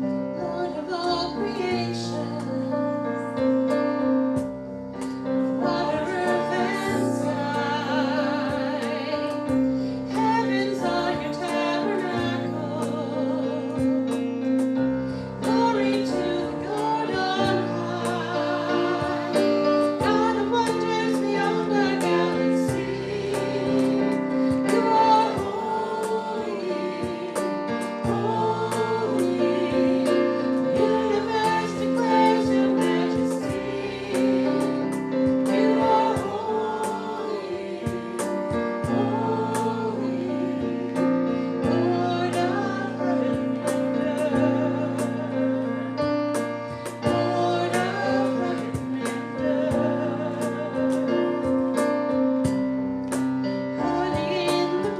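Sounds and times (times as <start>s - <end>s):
instrumental accompaniment: 0.0s - 54.9s
group singing a gospel hymn: 0.3s - 54.9s.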